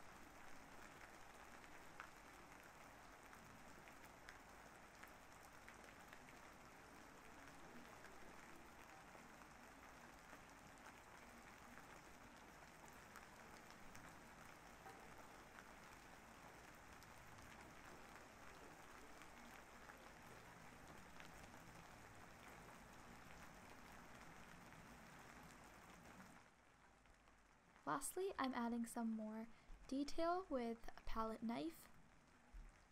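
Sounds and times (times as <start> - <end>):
faint steady rain: 0.0 - 32.9.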